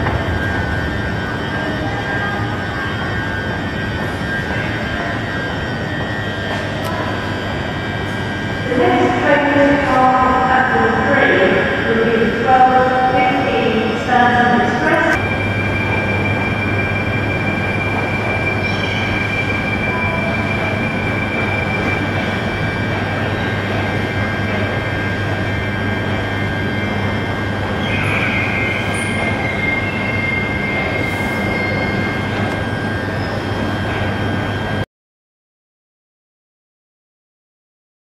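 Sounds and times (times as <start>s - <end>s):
thin high whine: 0.0s - 34.8s
train rumble inside carriage: 0.0s - 34.8s.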